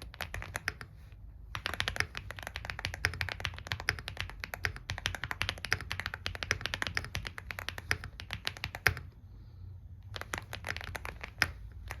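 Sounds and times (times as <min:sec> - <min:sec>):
mechanical keyboard typing: 0:00.0 - 0:00.9, 0:01.5 - 0:09.2, 0:10.0 - 0:12.0.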